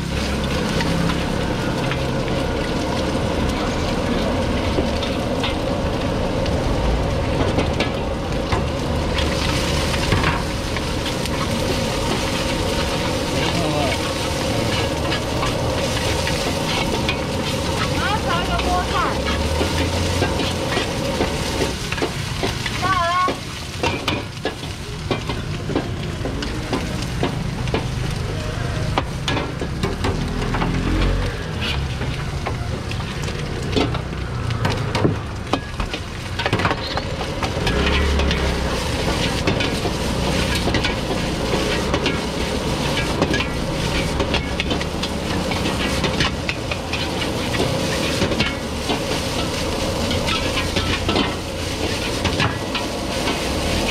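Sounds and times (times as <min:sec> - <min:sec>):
metal ladles scraping woks: 0:00.0 - 0:53.9
rice sizzling in woks: 0:00.0 - 0:53.9.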